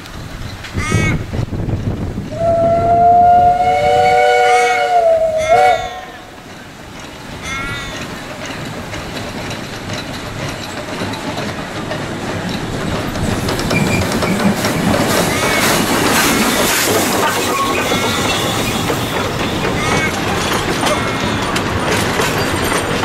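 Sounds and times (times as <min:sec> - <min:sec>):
steam locomotive running: 0:00.0 - 0:23.0.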